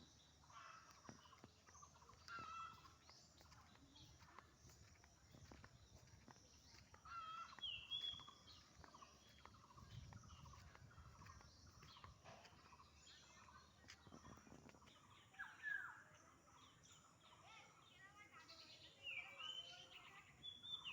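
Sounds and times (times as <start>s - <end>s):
bird calls: 0.0s - 20.9s.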